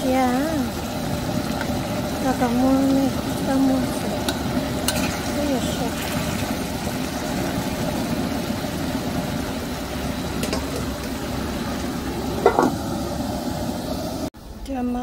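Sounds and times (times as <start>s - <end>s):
squash sizzling in a wok: 0.0s - 15.0s.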